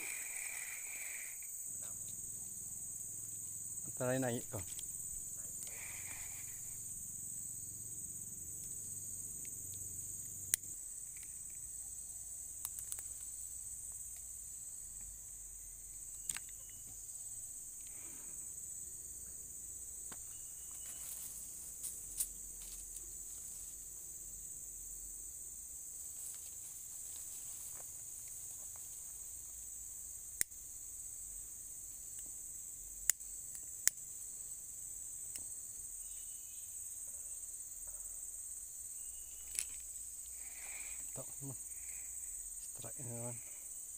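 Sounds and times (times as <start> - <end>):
high-pitched insect chorus: 0.0 - 43.9.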